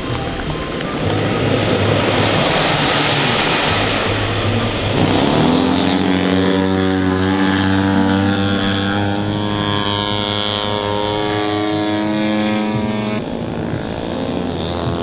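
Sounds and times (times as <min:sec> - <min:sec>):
model airplane engine: 0:00.0 - 0:15.0
rushing engine noise: 0:00.0 - 0:15.0.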